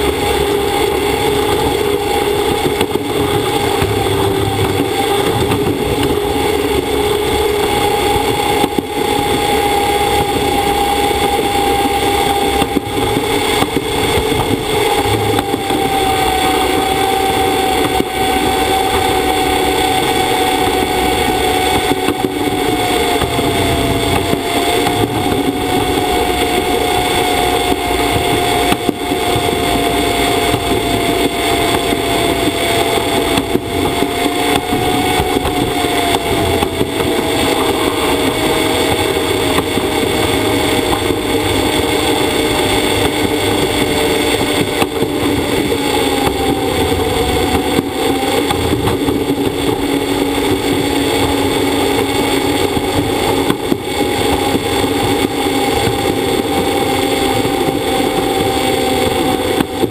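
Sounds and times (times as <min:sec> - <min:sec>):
thin whining tone: 0:00.0 - 0:59.9
wheels rumbling on monorail rail: 0:00.0 - 0:59.9.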